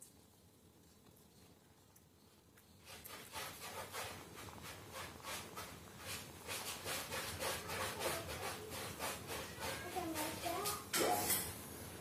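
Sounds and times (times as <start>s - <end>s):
kittens suckling: 0.2s - 10.0s.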